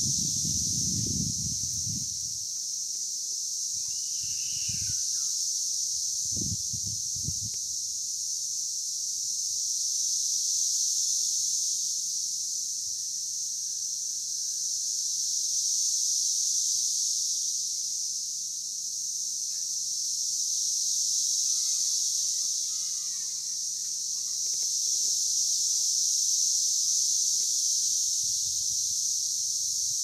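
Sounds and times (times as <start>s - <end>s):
cicadas chorus high-pitched drone: 0.0s - 30.0s.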